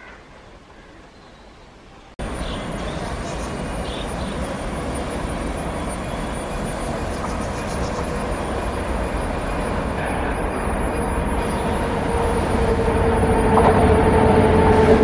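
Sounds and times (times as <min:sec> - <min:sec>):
train wheels rumbling on rail: 0:02.2 - 0:15.0.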